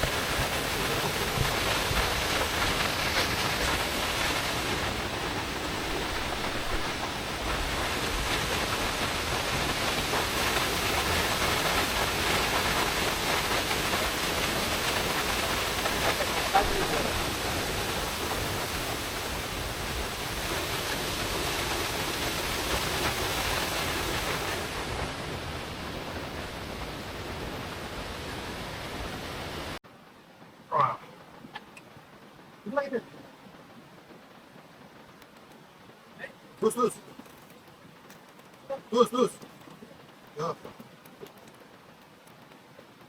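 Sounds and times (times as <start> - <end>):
steady rushing noise: 0.0 - 43.0.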